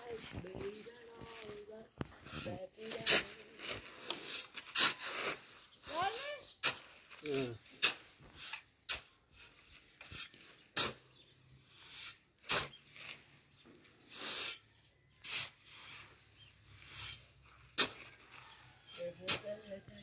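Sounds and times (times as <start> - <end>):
shovel blade scraping ground: 0.0 - 19.8.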